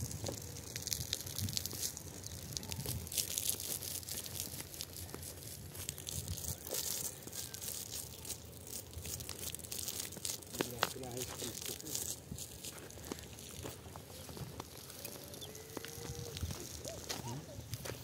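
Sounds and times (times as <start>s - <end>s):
footsteps crunching on stony soil: 0.0s - 18.0s.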